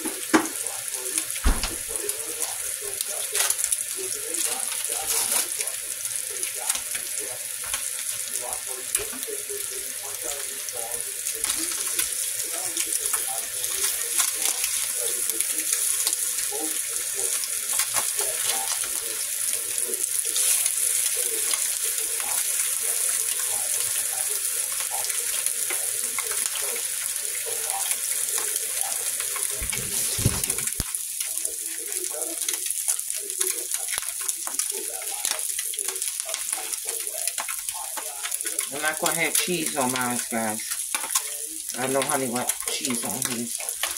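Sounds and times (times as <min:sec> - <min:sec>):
eggs sizzling in grease: 0:00.0 - 0:43.9
spatula working in pan: 0:00.0 - 0:43.9.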